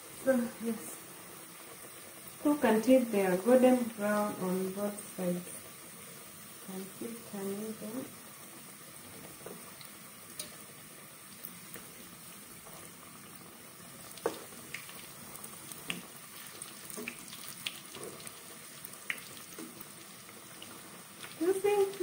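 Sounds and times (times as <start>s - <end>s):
oil sizzling: 0.0s - 22.0s.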